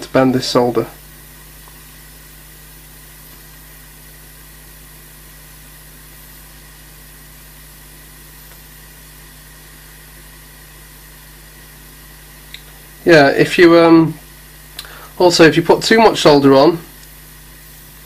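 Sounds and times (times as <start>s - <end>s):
even hiss: 0.0s - 18.0s.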